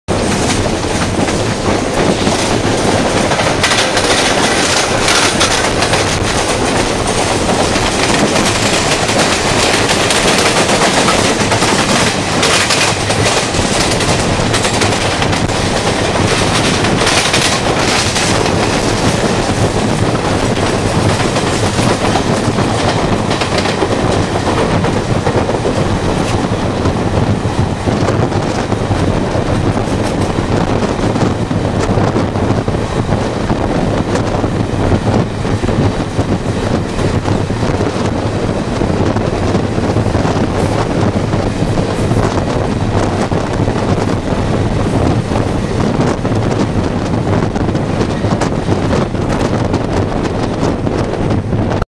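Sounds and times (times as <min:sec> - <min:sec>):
clickety-clack over rail joints: 0:00.1 - 0:51.8
train wheels rumbling: 0:00.1 - 0:51.8.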